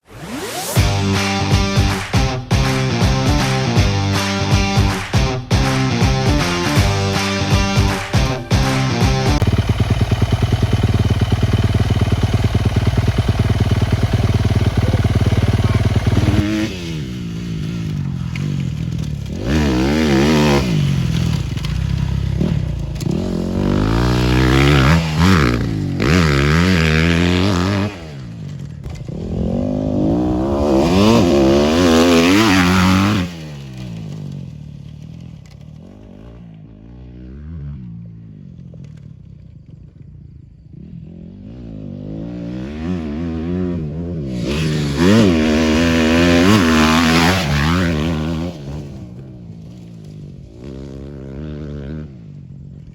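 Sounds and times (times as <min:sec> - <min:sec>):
dirt motorcycle engine revving: 0:00.0 - 0:38.2, 0:40.8 - 0:52.8.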